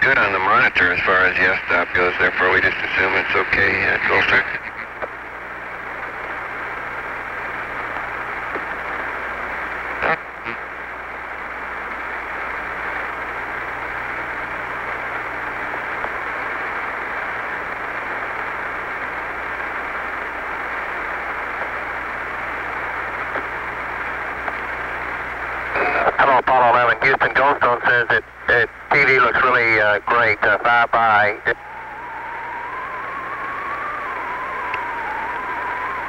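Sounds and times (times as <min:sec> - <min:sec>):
low steady hum: 0:00.0 - 0:36.0
radio channel hiss: 0:00.0 - 0:36.0
radio crackle: 0:00.0 - 0:36.0.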